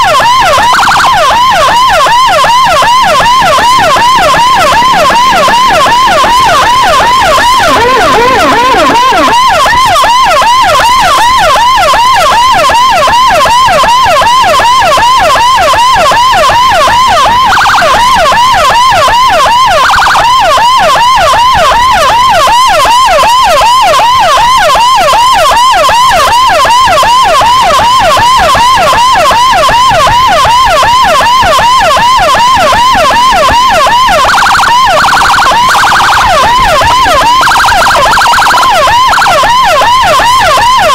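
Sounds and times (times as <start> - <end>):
electronic siren yelp: 0.0 - 40.9.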